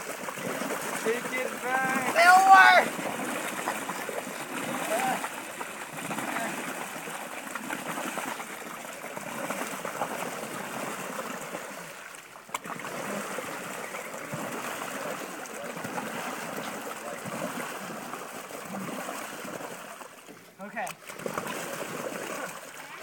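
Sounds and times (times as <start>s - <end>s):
paddle wheels churning water: 0.0s - 23.0s.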